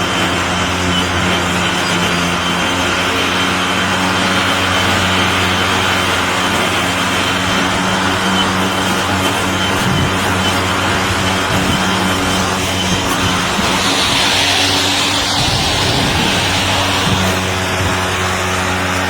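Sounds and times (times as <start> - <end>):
electric lawn mower blade hum: 0.0 - 19.0
high-pitched motor whine: 0.0 - 19.0.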